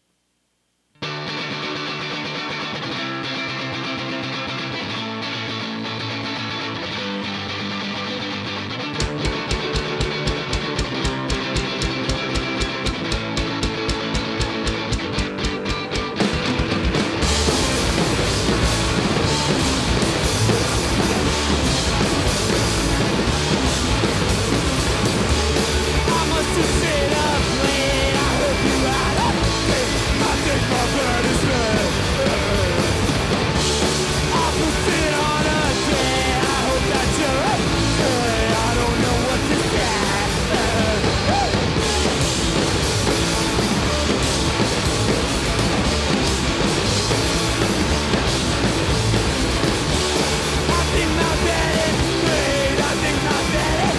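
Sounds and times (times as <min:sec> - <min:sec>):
rock band playing live: 0:01.0 - 0:53.9.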